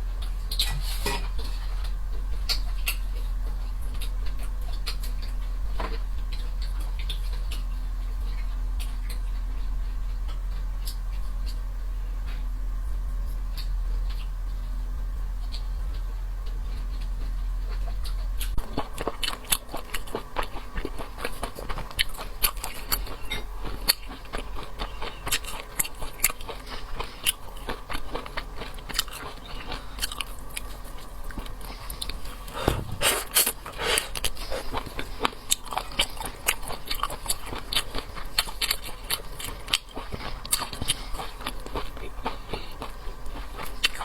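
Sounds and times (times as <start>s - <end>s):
chewing seafood crunching: 0.0s - 44.0s.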